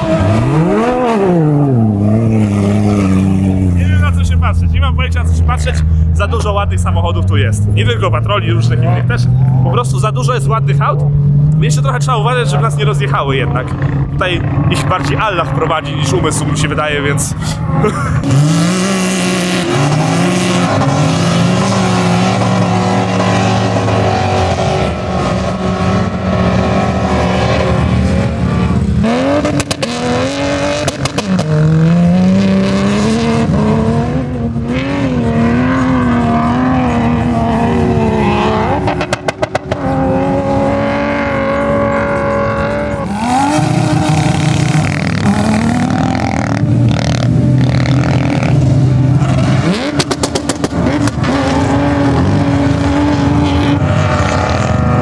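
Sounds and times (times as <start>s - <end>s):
engines revving at full throttle: 0.0s - 55.0s.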